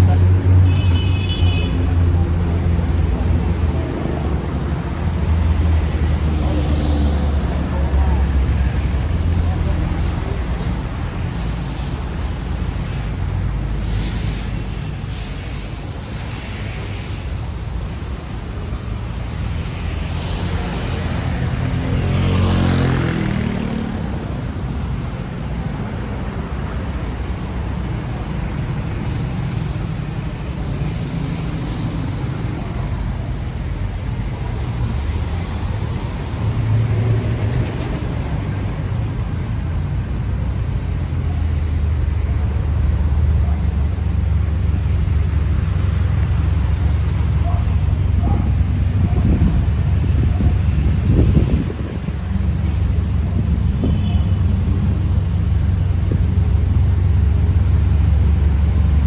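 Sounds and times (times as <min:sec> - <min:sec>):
vehicles passing on street: 0:00.0 - 0:59.0.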